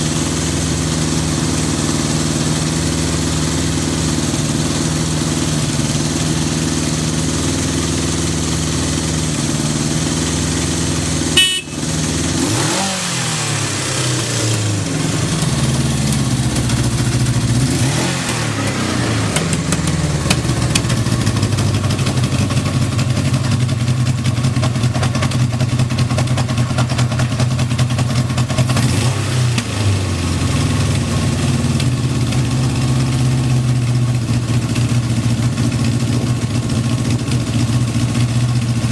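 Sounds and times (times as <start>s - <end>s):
motorcycle engine idling: 0.0s - 12.5s, 13.6s - 28.8s, 30.1s - 38.9s.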